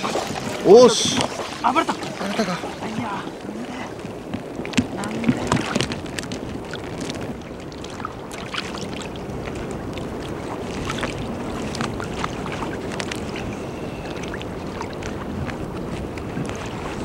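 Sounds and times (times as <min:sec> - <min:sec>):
seawater lapping and sloshing: 0:00.0 - 0:17.0
water splashes: 0:00.0 - 0:17.0.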